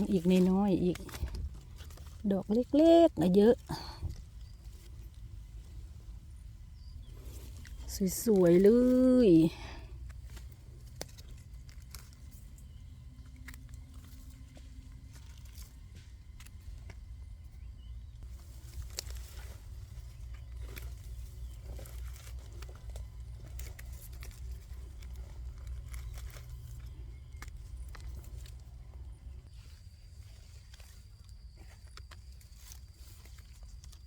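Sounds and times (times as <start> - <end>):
steady low rumble: 0.0 - 31.8
rustling in dry forest litter: 0.0 - 34.0.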